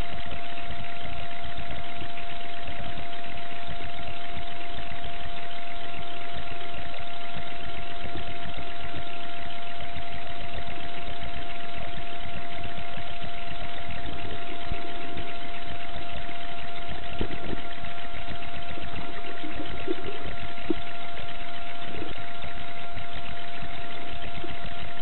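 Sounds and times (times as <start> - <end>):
constant hum: 0.0 - 25.0
steady mechanical drone: 0.0 - 25.0.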